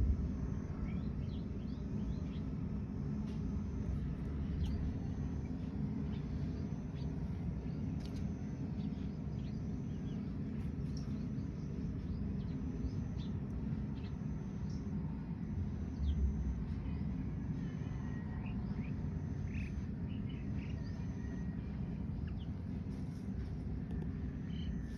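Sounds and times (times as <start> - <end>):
low outdoor rumble: 0.0 - 24.9.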